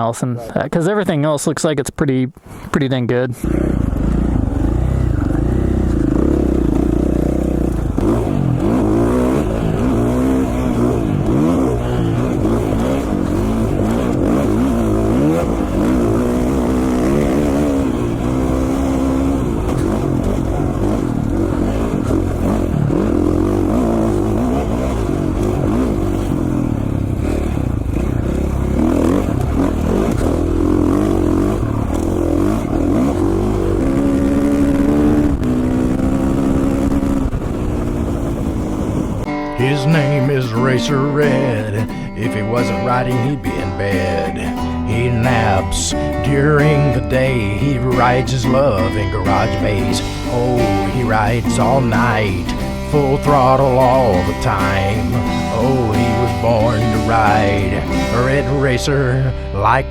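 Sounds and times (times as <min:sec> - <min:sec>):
dirt bike engine revving: 0:03.4 - 0:59.9.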